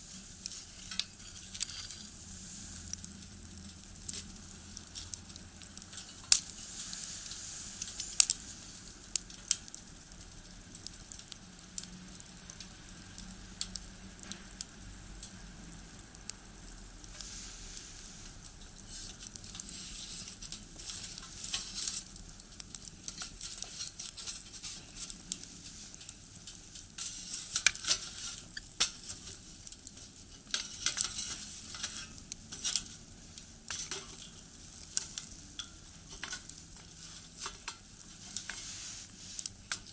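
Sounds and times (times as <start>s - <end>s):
firewood crackling in stove: 0.0s - 39.9s
sharp pops of fire: 0.2s - 39.9s.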